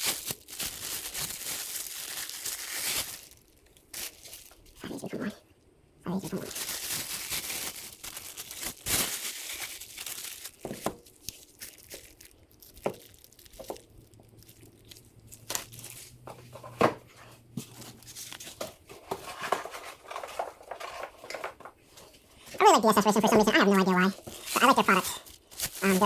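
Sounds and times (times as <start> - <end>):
packaging crinkling and rustling: 0.0 - 5.2, 6.3 - 26.0.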